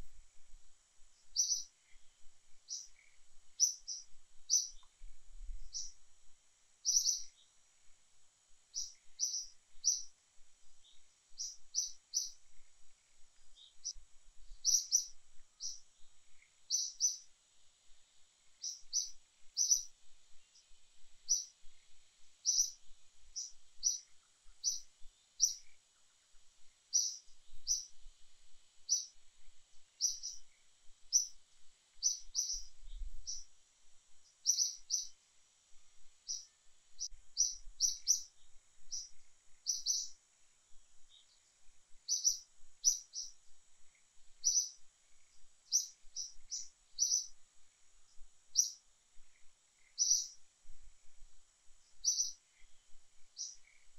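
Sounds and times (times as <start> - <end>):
faint high hiss: 0.0 - 53.9
bird chirping: 1.2 - 5.0, 5.6 - 6.0, 6.8 - 7.6, 8.7 - 17.3, 18.4 - 28.0, 28.8 - 29.2, 29.8 - 33.5, 34.2 - 35.2, 36.2 - 50.4, 51.8 - 53.9.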